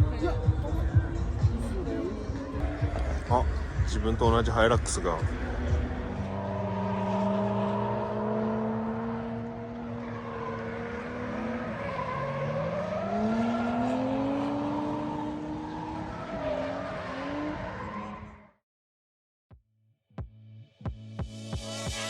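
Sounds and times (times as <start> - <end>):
vehicle engines revving: 0.0 - 18.5.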